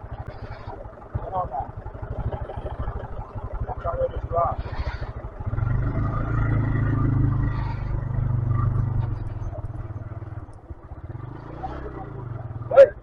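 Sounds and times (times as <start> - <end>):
motorcycle engine pulling under load: 2.1 - 12.7.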